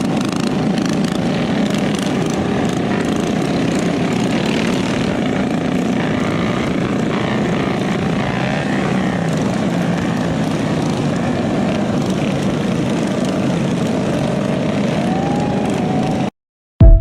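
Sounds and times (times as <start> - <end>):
minibike engine running: 0.0 - 16.3.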